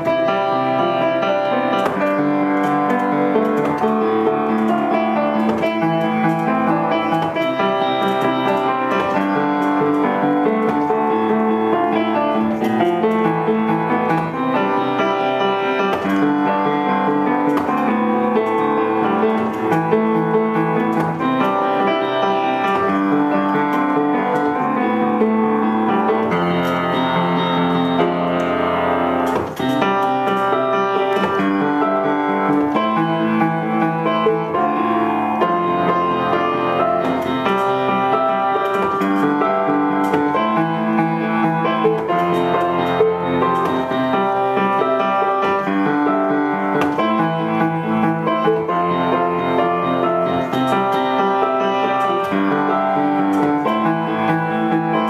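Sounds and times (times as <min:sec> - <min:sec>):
upright piano playing: 0:00.0 - 0:55.0.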